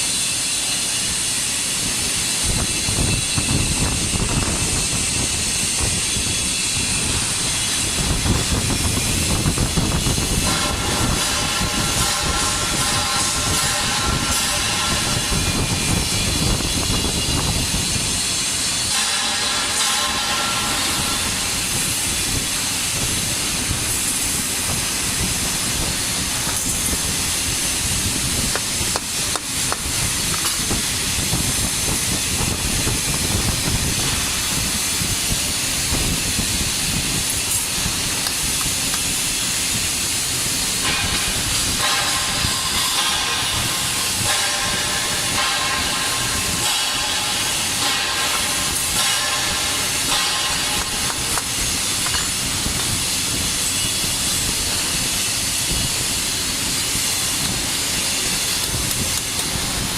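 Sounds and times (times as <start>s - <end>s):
welding arc hissing and crackling: 0.0s - 59.9s.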